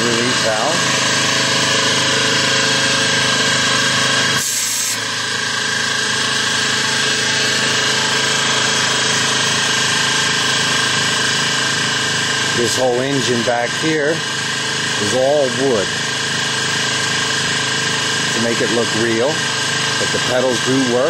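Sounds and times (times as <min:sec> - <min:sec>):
electric air compressor running: 0:00.0 - 0:21.0.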